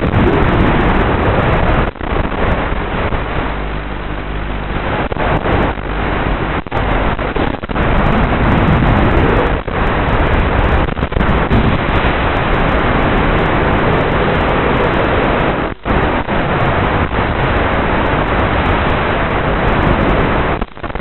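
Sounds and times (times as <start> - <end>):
wind noise: 0.0 - 21.0.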